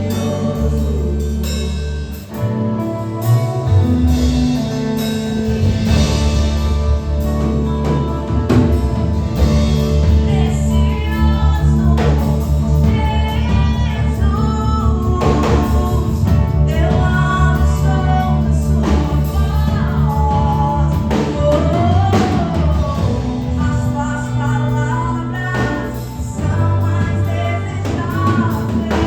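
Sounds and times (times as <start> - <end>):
band with steady drum beats: 0.0 - 29.0
person singing: 0.0 - 29.0.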